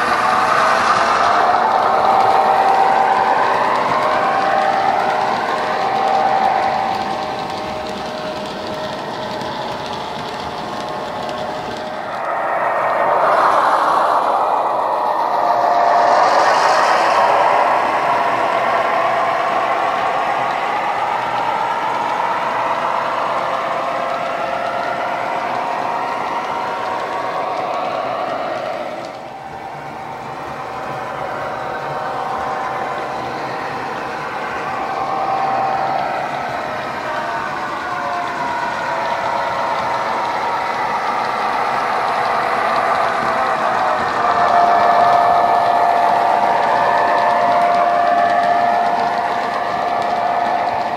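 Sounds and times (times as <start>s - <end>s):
diesel locomotive engine from speaker: 0.0s - 50.9s
model train wagons rumbling: 0.0s - 50.9s.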